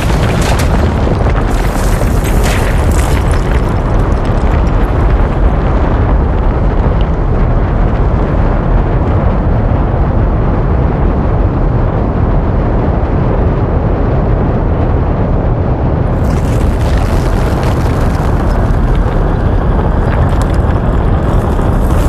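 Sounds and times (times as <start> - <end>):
deep sci-fi engine rumble: 0.0 - 22.0.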